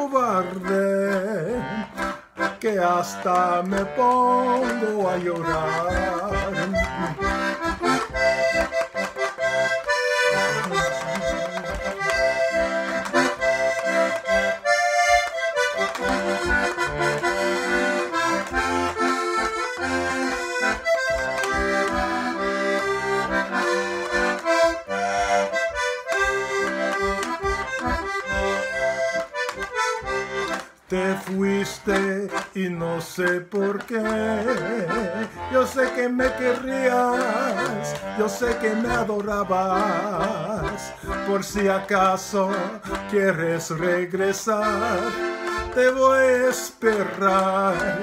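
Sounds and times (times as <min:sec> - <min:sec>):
button accordion melody: 0:00.0 - 0:48.0.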